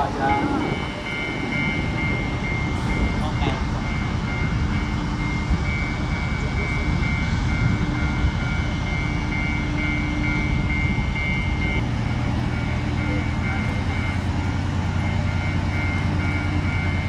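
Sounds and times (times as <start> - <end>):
locomotive engine idling: 0.0 - 17.0.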